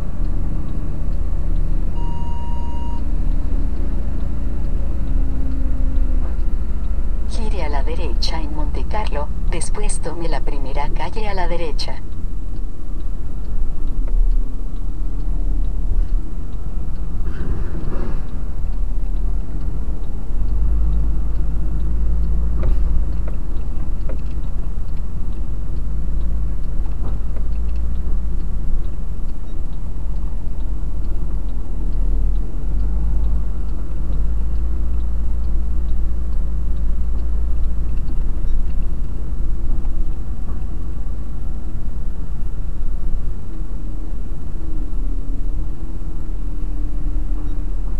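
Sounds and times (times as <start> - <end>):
truck engine rumbling: 0.0 - 47.9.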